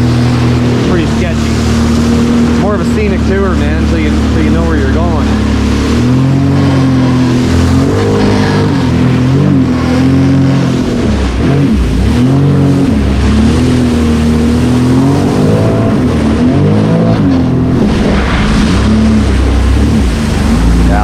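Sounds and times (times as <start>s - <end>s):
watercraft engine revving: 0.0s - 21.0s.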